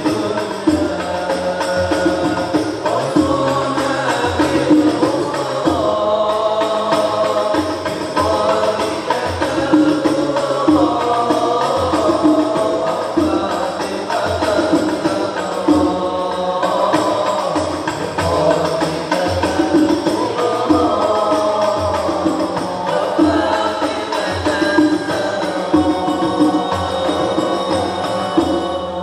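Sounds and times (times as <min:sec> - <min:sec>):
male voices singing in unison: 0:00.0 - 0:29.0.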